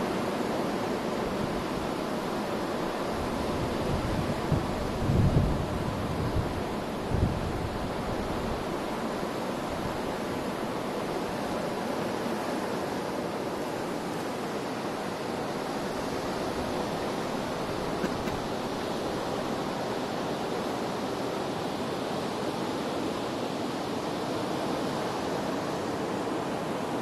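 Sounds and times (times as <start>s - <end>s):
sea surf washing on shore: 0.0s - 27.0s.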